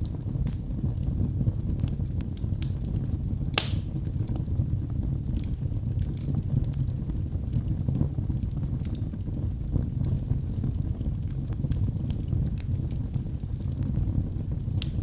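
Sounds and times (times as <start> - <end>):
wood fire burning: 0.0 - 15.0.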